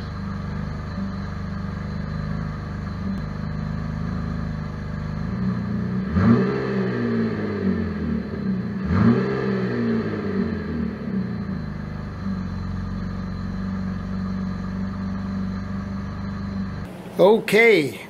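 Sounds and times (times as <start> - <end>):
engine idling and revving: 0.0 - 17.1.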